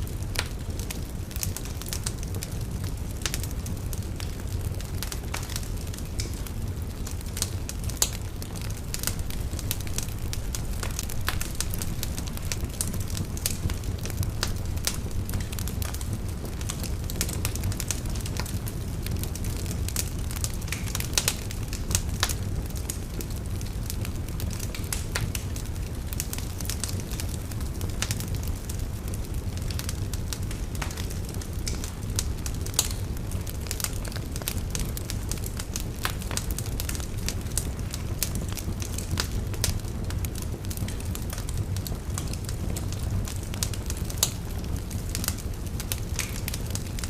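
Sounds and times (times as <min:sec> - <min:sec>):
fire crackles and pops: 0:00.0 - 0:47.0
fireplace fire rumbling: 0:00.0 - 0:47.0.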